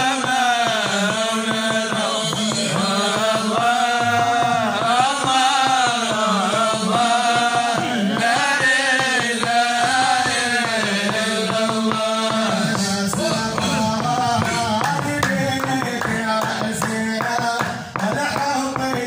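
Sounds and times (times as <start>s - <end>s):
men chanting through microphones: 0.0s - 19.0s.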